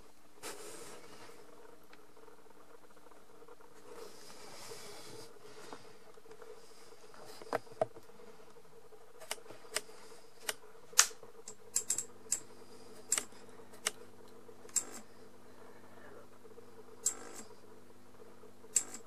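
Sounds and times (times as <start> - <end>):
low mains hum: 0.0 - 19.0.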